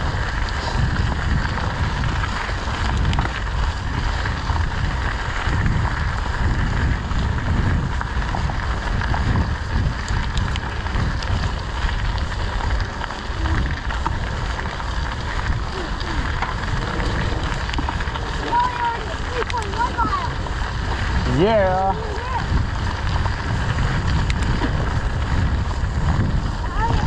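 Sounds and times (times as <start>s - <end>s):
bike tyres rolling on dirt: 0.0s - 27.0s
wind rumble on microphone: 0.0s - 27.0s.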